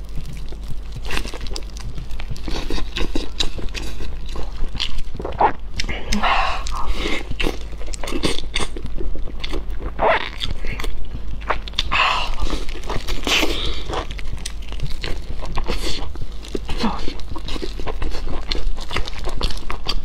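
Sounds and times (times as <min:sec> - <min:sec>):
low hum: 0:00.0 - 0:19.9
crunchy chewing of fried food: 0:00.0 - 0:20.0.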